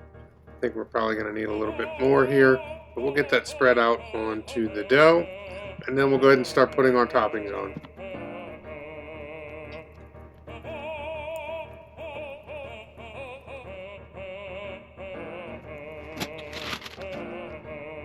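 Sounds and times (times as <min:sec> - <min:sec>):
background music: 0:00.0 - 0:18.0
operatic singing with vibrato: 0:00.7 - 0:18.0.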